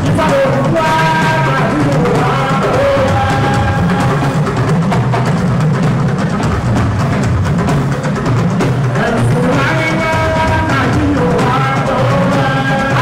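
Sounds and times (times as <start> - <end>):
rapid drumming and percussion: 0.0 - 13.0.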